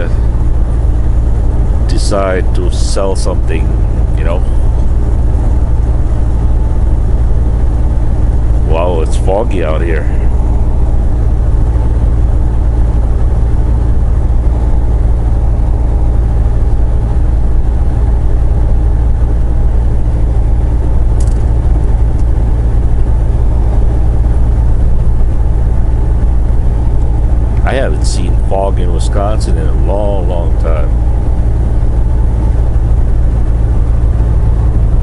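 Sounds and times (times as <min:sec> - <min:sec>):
truck engine and road drone: 0:00.0 - 0:35.0.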